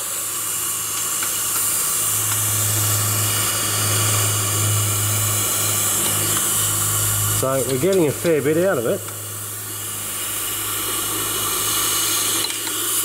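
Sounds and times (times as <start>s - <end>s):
steady low hum: 0.0s - 13.0s
steam hissing: 0.0s - 13.0s.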